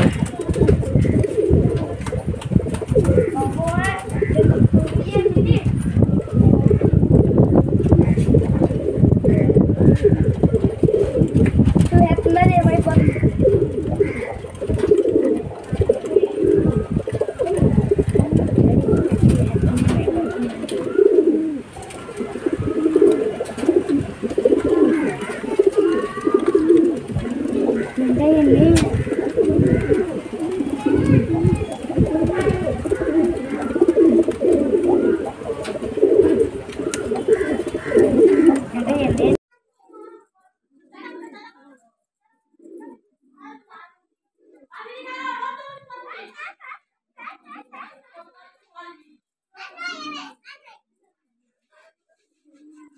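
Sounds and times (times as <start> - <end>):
pigeons cooing: 0.0 - 43.7, 44.3 - 45.6.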